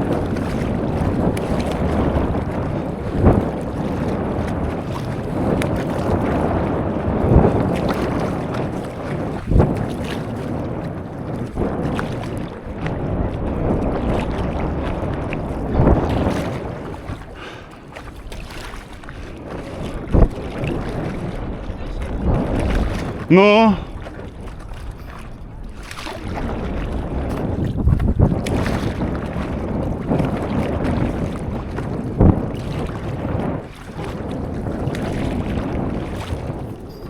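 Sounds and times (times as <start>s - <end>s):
paddle stroke splash: 0.0s - 37.0s
sea water sloshing: 0.0s - 37.0s
wind on microphone: 0.0s - 37.0s.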